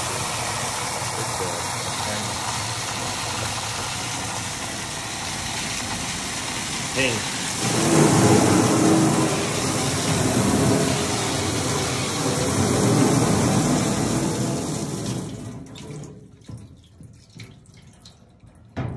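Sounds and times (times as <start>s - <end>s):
water jet splashing into bucket: 0.0s - 18.9s.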